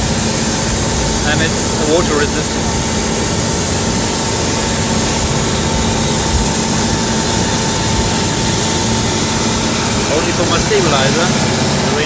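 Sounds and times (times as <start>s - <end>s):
boat engine running: 0.0s - 12.0s
thin high whine: 1.2s - 12.0s.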